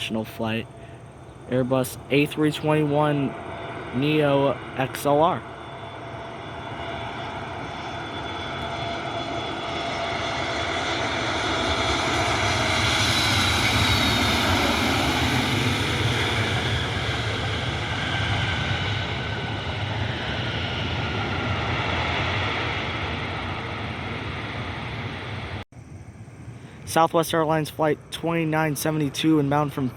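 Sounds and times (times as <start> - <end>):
jet airliner flying past: 0.0 - 29.9
jet engine whine: 0.0 - 29.9.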